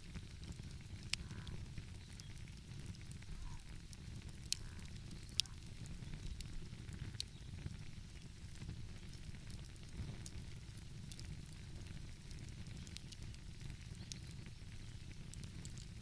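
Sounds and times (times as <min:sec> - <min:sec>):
fire pops: 0:00.0 - 0:16.0
wood fire crackling: 0:00.0 - 0:16.0.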